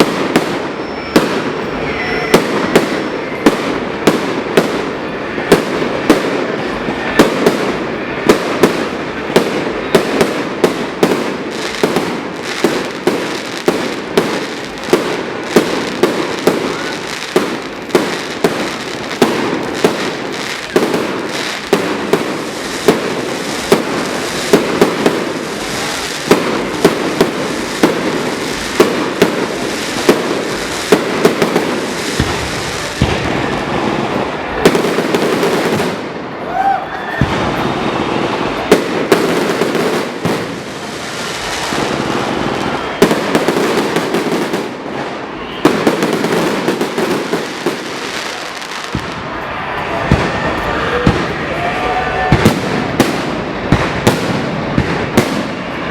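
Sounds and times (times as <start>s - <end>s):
fireworks bangs: 0.0s - 55.9s
fireworks crackling: 0.0s - 55.9s.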